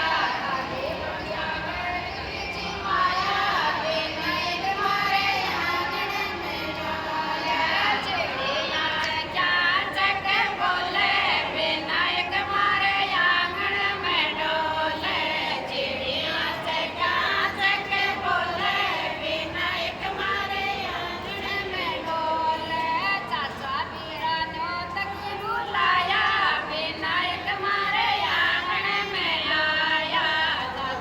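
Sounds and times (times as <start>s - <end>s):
group of women singing: 0.0s - 31.0s.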